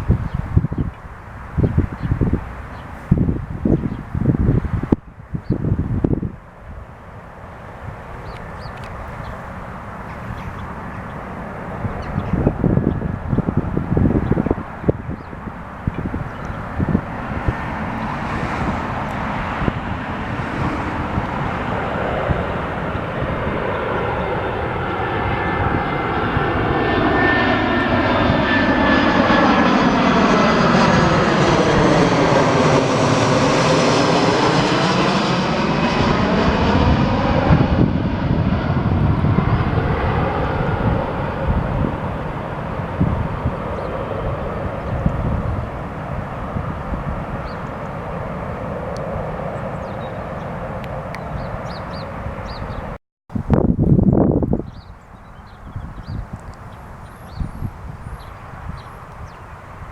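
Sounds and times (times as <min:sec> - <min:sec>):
jet airliner passing overhead: 0:00.0 - 0:59.9.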